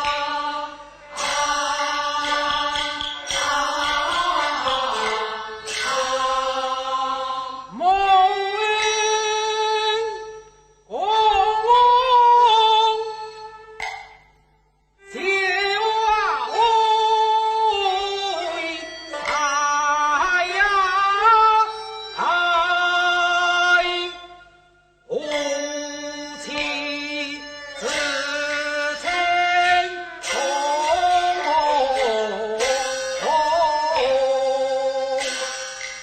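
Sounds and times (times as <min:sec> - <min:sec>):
ornamented opera melody: 0:00.0 - 0:10.2, 0:15.0 - 0:36.0
sharp percussion strikes: 0:00.0 - 0:36.0.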